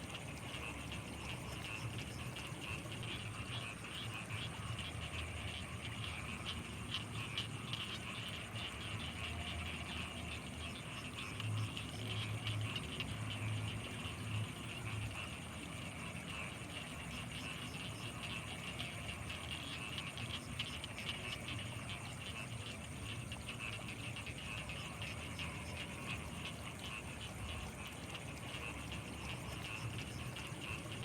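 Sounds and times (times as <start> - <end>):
frogs rattling trill: 0.0 - 31.0.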